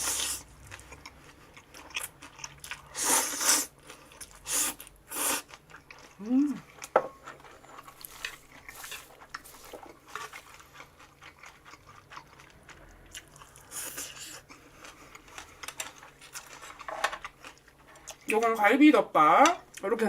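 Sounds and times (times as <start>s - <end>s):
person chewing food: 0.0s - 18.3s.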